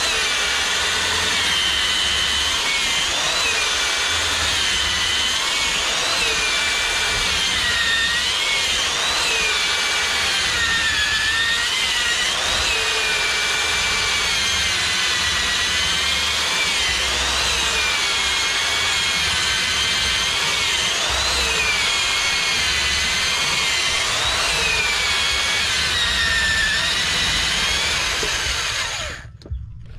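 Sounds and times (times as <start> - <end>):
electric drill boring into wood: 0.0 - 29.4.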